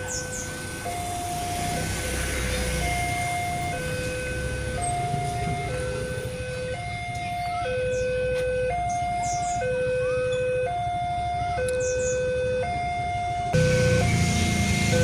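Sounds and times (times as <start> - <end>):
level crossing two-tone alarm: 0.0 - 15.0
road vehicles rumble: 0.0 - 15.0.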